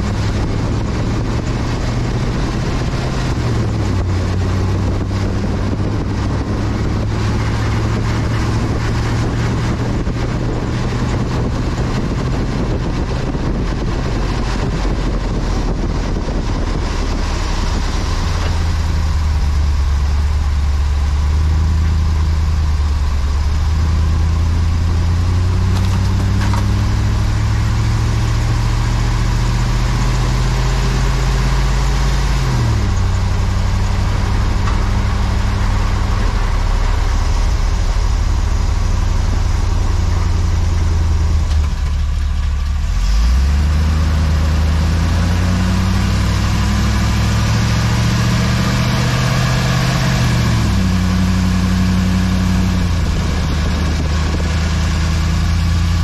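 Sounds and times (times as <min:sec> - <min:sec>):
road and wind noise: 0:00.0 - 0:56.0
truck engine drone: 0:00.0 - 0:56.0.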